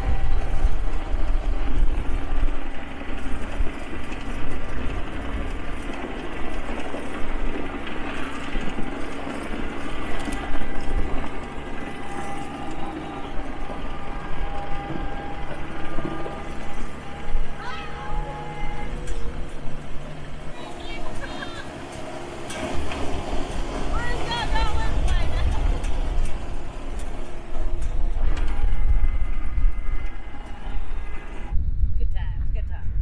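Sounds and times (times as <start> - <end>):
tractor engine running: 0.0 - 31.6.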